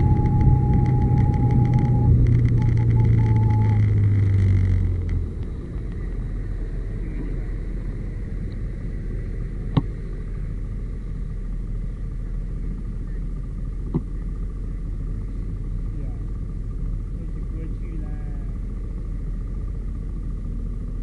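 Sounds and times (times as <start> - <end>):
scooter engine idling: 0.0 - 4.1, 5.2 - 21.0.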